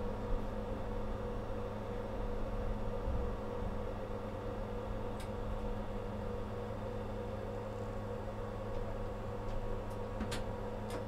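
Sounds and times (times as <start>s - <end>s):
electrical hum in tram cab: 0.0s - 11.0s.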